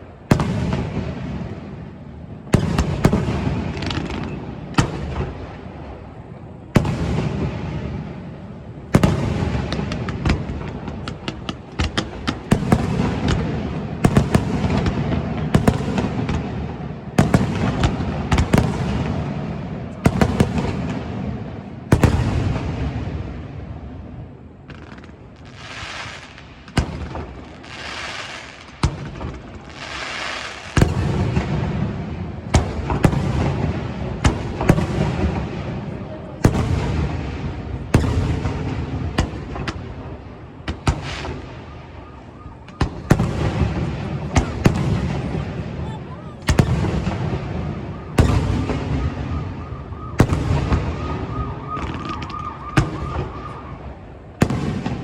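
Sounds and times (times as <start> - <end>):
firework bangs: 0.0 - 55.0.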